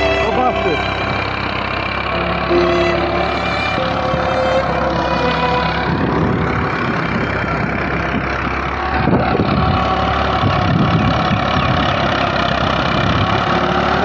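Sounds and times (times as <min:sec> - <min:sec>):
rough churning noise: 0:00.0 - 0:14.0
tractor engine running: 0:00.0 - 0:14.0.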